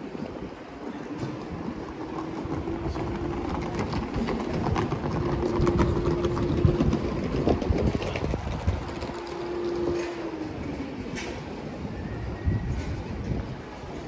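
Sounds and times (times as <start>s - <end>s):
suitcase wheels rattling on cobblestones: 0.0s - 14.0s.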